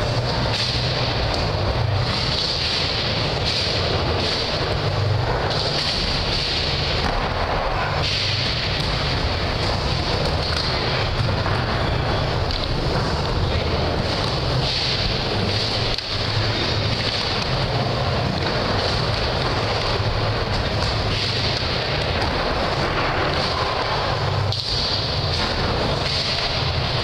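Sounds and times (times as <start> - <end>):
skateboard wheels rolling on wood: 0.0 - 27.0.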